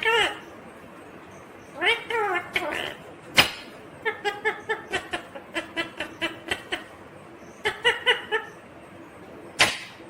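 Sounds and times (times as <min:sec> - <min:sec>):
parakeet chattering: 0:00.0 - 0:00.6, 0:01.3 - 0:08.8.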